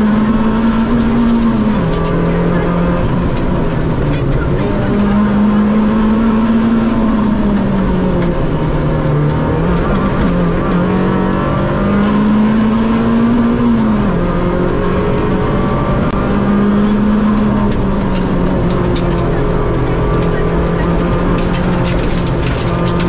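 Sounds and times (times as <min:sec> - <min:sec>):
rally car engine from inside: 0:00.0 - 0:23.0.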